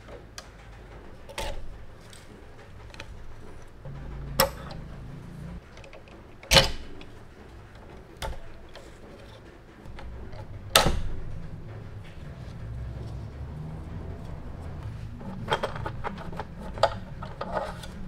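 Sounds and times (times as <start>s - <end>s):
low hum: 0.6s - 8.8s, 9.7s - 18.0s.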